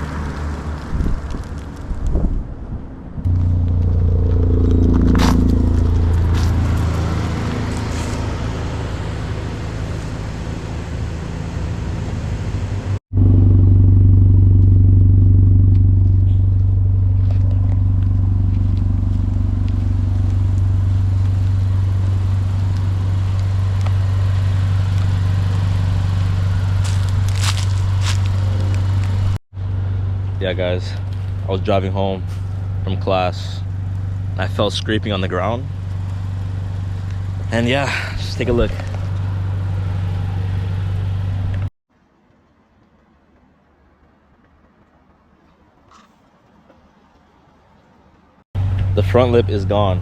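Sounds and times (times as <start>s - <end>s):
car exhaust drone: 0.0s - 41.7s, 48.6s - 50.0s.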